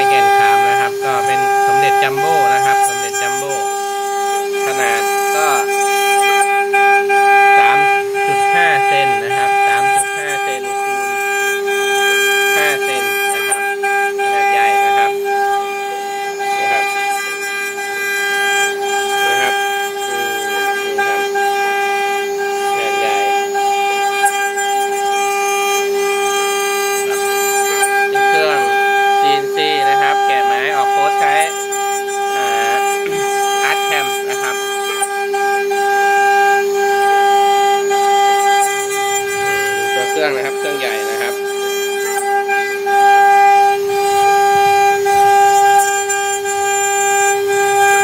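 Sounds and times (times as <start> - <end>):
cnc spindle whine: 0.0 - 48.0.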